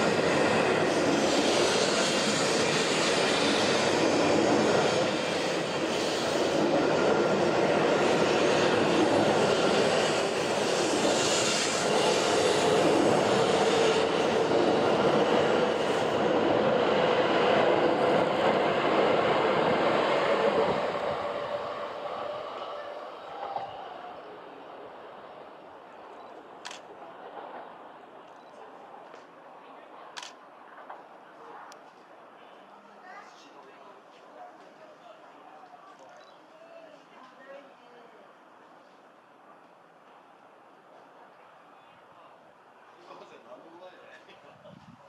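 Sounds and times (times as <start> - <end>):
train running noise: 0.0 - 37.6.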